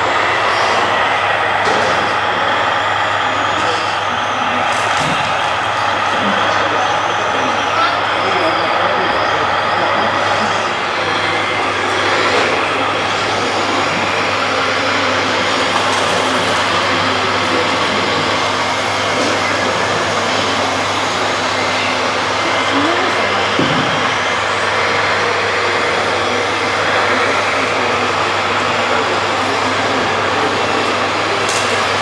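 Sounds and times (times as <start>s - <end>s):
rising motor whine: 0.0s - 32.0s.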